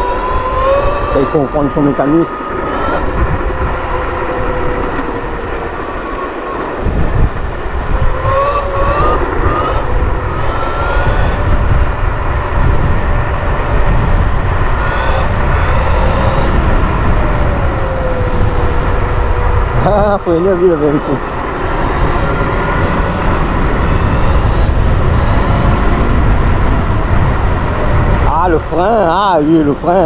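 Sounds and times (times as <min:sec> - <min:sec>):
electric scooter motor whining: 0:00.0 - 0:28.3
low rushing noise: 0:00.0 - 0:30.0.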